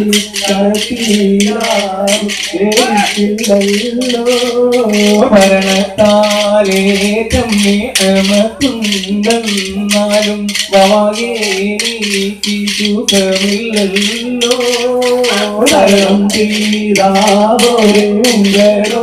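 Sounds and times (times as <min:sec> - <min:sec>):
person singing: 0:00.0 - 0:19.0
sticks clacking together: 0:00.0 - 0:19.0.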